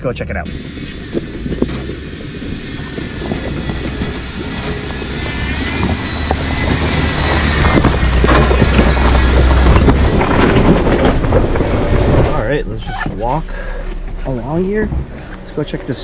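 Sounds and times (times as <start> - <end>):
engine and drivetrain rumble: 0.0 - 16.0
tyres crunching over stones: 3.2 - 16.0.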